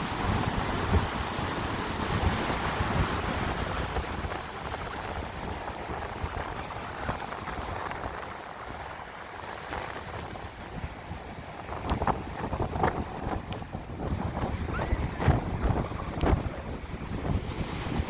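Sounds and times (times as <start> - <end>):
ocean waves washing ashore: 0.0 - 18.0
wind buffeting microphone: 0.0 - 18.0.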